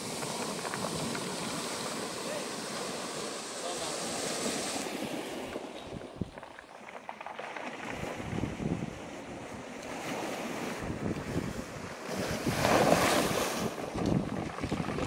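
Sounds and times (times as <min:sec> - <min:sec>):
wind buffeting microphone: 0:00.0 - 0:06.8, 0:07.6 - 0:15.0
surf breaking on pebble beach: 0:00.0 - 0:15.0.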